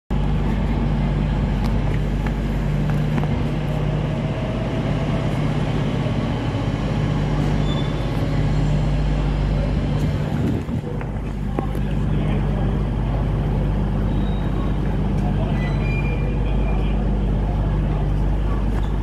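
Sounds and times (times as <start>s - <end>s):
low mechanical hum of train: 0.1s - 19.0s.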